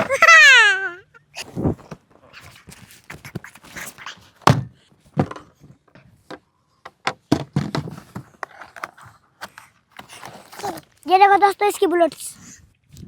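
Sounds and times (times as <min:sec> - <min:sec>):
boxes and plastic parts handled: 0:01.4 - 0:12.3.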